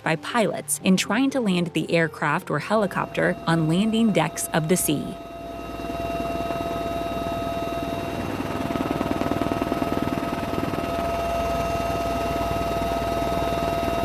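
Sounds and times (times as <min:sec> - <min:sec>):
aircraft engine whine and drone: 0:01.0 - 0:14.0.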